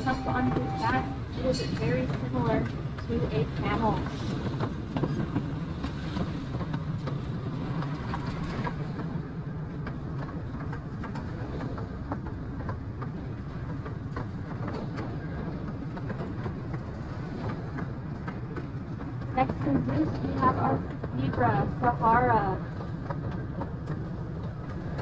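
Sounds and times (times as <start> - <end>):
track clicks and clacks: 0.0 - 25.0
train rumble: 0.0 - 25.0.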